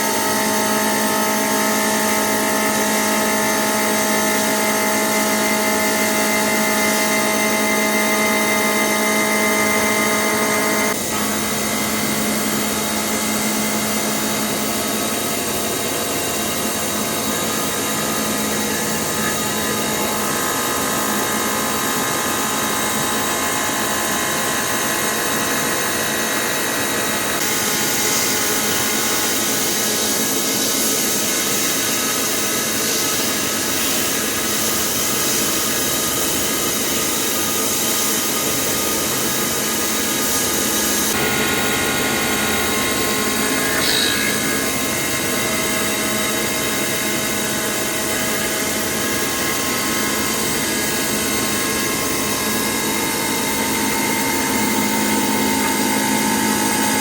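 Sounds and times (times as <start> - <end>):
milling machine cutting steel: 0.0 - 22.2, 26.3 - 57.0.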